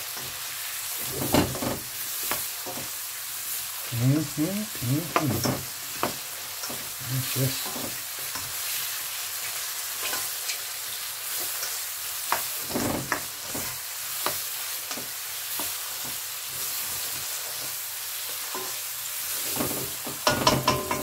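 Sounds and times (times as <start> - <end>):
mushrooms sizzling in butter: 0.0 - 21.0.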